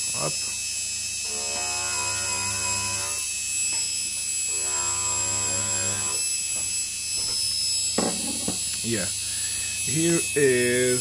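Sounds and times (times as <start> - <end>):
washing machine motor whine: 0.0 - 11.0.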